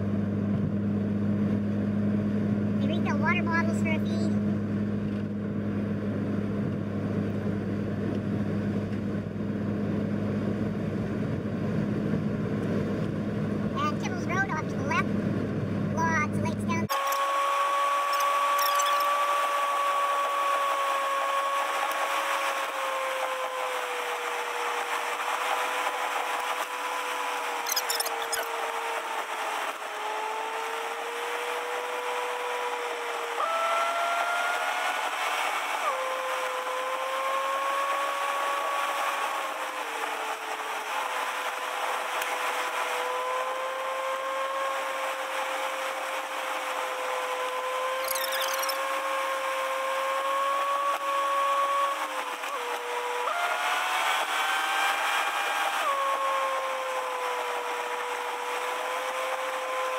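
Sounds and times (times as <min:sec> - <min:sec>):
steady mechanical whine: 0:00.0 - 0:59.9.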